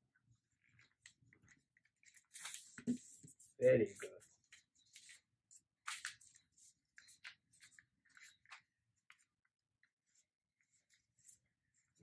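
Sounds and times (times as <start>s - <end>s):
paper rustling and crinkling: 0.6s - 12.0s.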